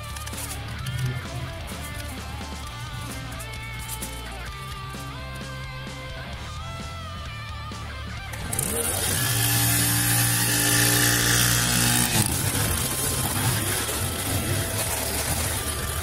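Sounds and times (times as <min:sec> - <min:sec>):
brush cutter engine: 0:00.0 - 0:05.6, 0:08.2 - 0:16.0.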